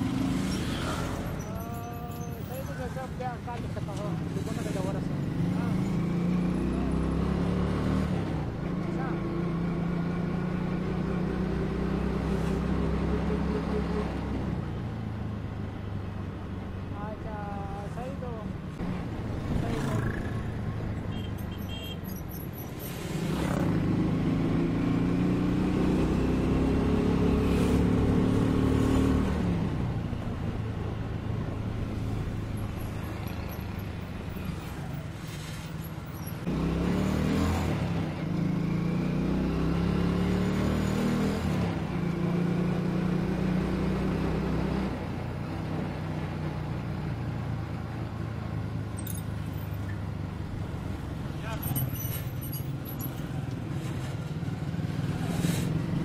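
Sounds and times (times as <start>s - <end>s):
road noise: 0.0s - 56.0s.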